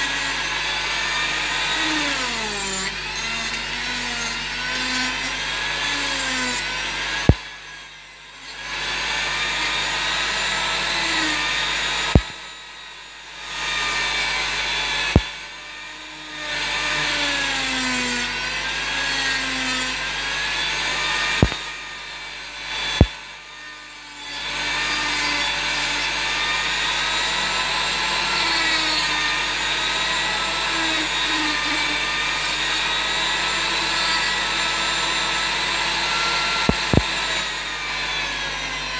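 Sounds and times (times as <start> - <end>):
rotary tool grinding wood: 0.0 - 38.9.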